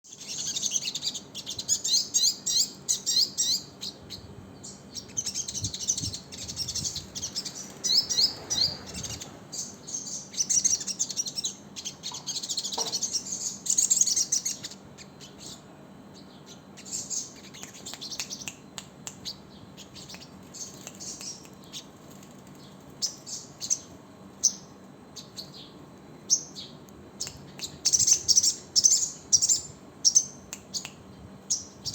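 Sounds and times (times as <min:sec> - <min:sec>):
sunbird twittering chirps: 0:00.0 - 0:18.5, 0:19.2 - 0:22.0, 0:22.6 - 0:31.9.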